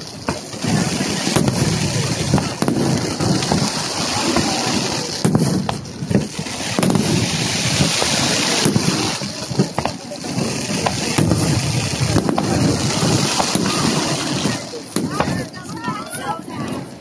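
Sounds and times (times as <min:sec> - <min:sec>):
firework shells bursting: 0:00.0 - 0:16.1
firework crackle: 0:00.0 - 0:17.0.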